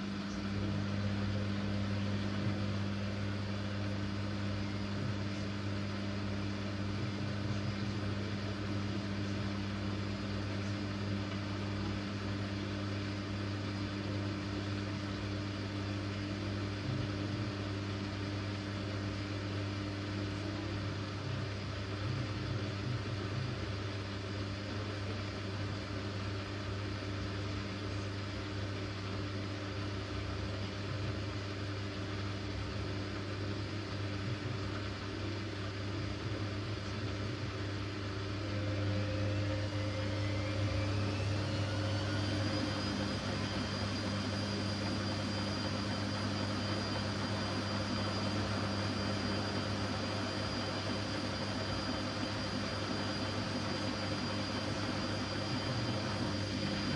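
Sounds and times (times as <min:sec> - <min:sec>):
washing machine motor hum: 0:00.0 - 0:56.9
washing machine whine rising: 0:00.0 - 0:56.9.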